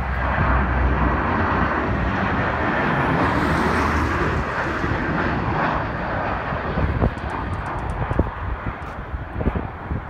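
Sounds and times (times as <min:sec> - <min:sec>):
jet airliner passing overhead: 0:00.0 - 0:10.0.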